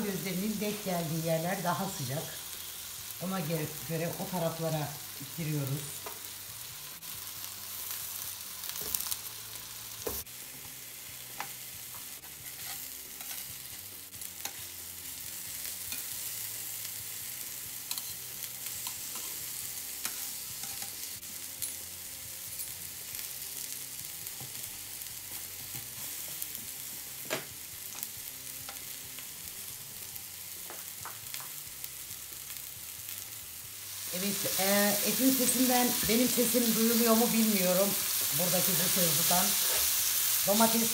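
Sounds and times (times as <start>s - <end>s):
meat sizzling on griddle: 0.0s - 40.9s.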